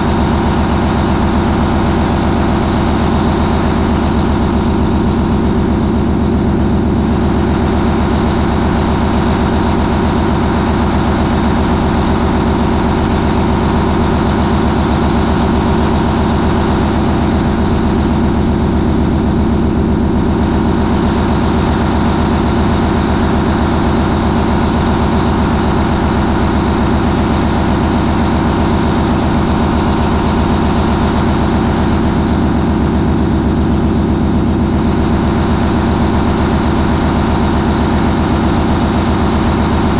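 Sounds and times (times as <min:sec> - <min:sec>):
marine diesel engine running: 0:00.0 - 0:39.9.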